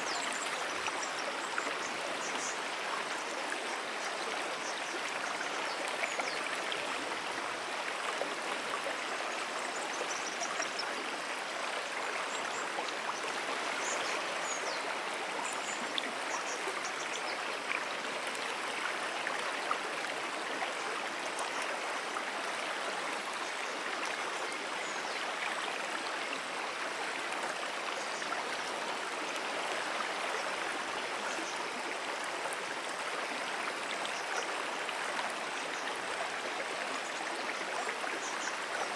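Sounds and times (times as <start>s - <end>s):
brook water rushing and burbling: 0.0s - 38.9s.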